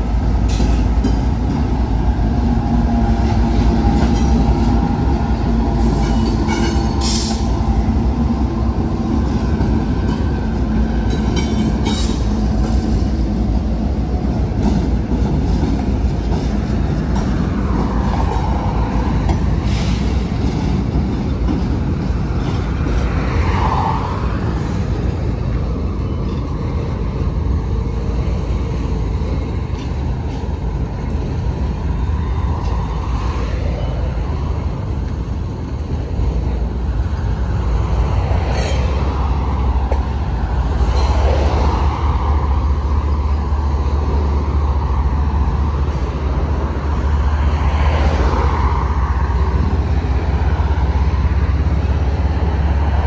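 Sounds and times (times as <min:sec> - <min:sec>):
freight train rolling past: 0:00.0 - 0:53.0.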